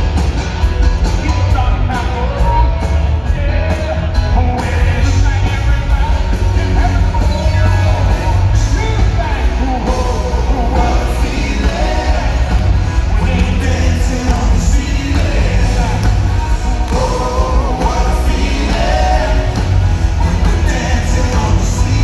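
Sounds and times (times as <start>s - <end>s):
live band music: 0.0s - 22.0s
man singing: 1.2s - 22.0s.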